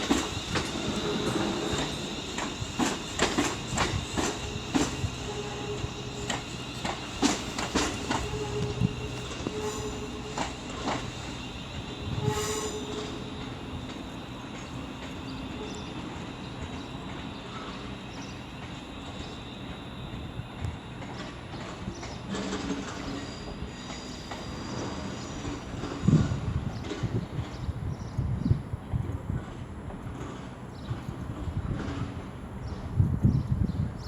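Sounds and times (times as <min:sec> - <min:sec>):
high-pitched train squeal: 0:00.0 - 0:27.9
train rumbling: 0:00.0 - 0:34.0.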